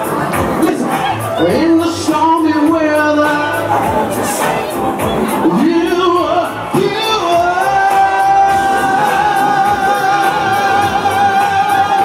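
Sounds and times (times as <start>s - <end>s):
dance music backing track: 0.0s - 12.0s
man singing into a microphone: 0.1s - 12.0s.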